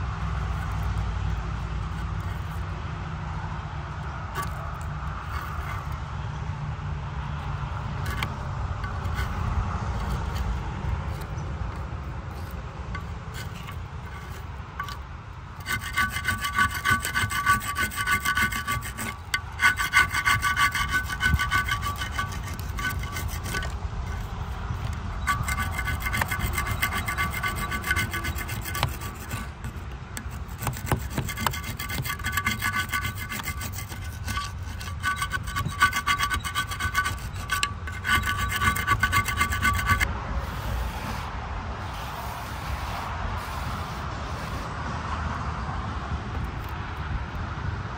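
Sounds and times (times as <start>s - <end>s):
scraping rusted metal: 0.0s - 2.9s, 3.9s - 6.6s, 7.2s - 44.7s.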